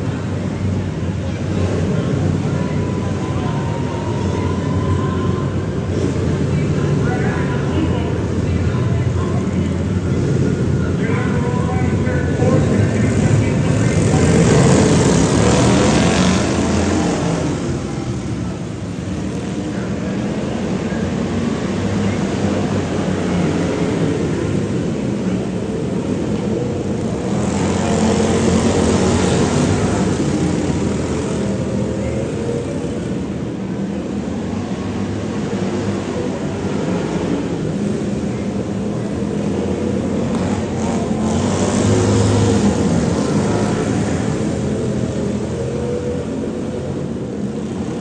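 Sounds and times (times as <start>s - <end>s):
lawn mower engines racing: 0.0s - 48.0s.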